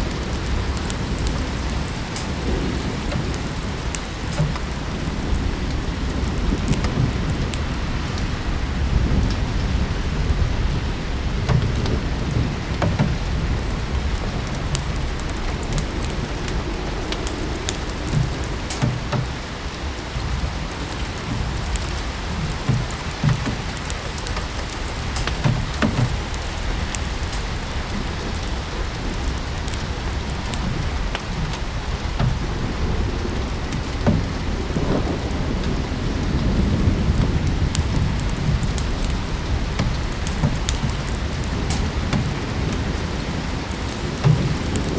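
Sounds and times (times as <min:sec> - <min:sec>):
rain falling: 0:00.0 - 0:44.9
wood fire crackling and popping: 0:00.0 - 0:44.9.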